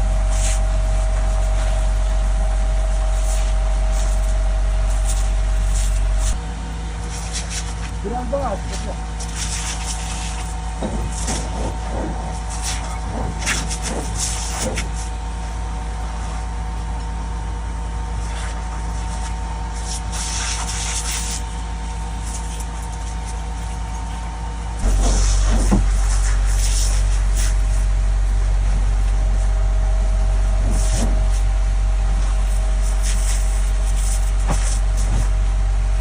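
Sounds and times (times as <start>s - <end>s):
water spraying from hose: 0.0s - 6.4s, 7.0s - 17.2s, 18.1s - 36.0s
fire engine motor and pump running: 0.0s - 36.0s.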